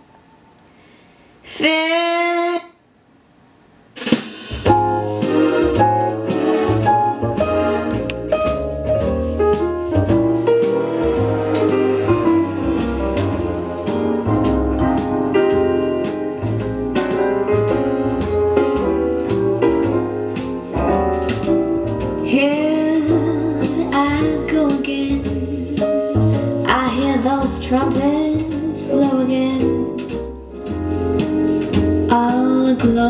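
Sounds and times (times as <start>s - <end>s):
drums keeping a beat: 4.0s - 33.0s
jazz piano: 4.0s - 33.0s
bass line: 4.6s - 33.0s.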